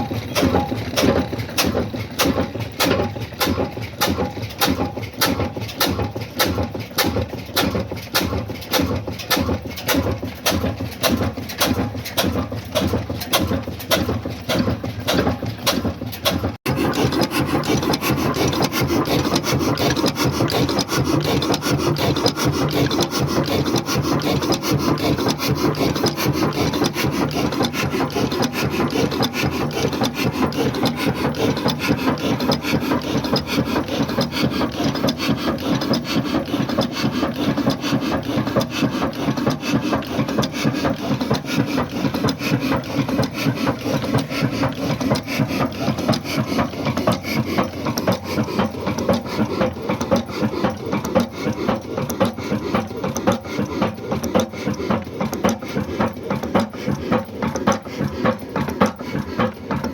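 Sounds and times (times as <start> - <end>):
diesel engine knocking rhythmically: 0.0 - 59.9.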